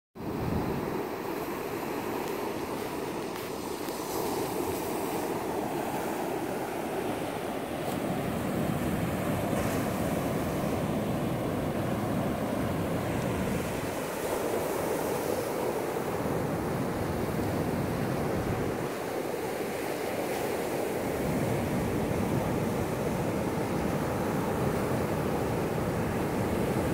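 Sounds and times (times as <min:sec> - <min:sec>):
surf washing up beach: 0:00.2 - 0:26.9.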